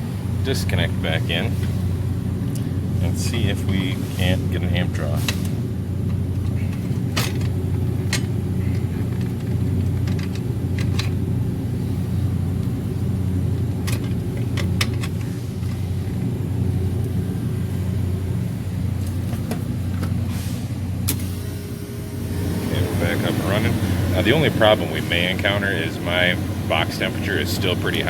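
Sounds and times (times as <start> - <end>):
condensing unit humming: 0.0 - 28.0.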